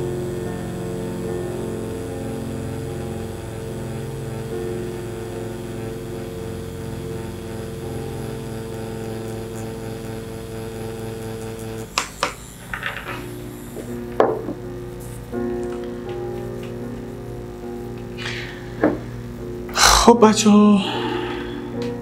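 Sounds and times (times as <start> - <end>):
tattoo machine humming: 0.0 - 22.0.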